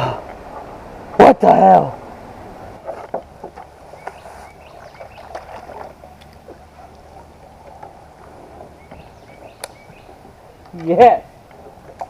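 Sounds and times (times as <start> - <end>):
water splashing: 2.0 - 12.0.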